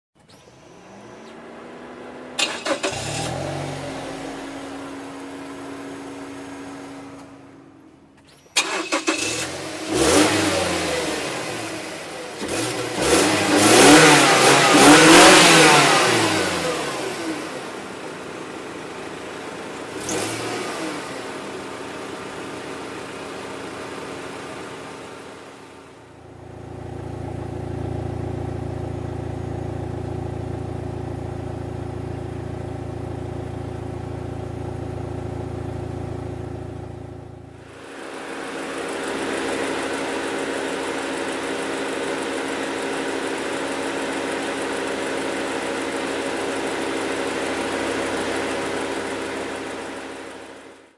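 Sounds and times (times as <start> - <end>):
car engine idling: 0.2 - 50.9
car engine starting and revving: 0.2 - 50.9.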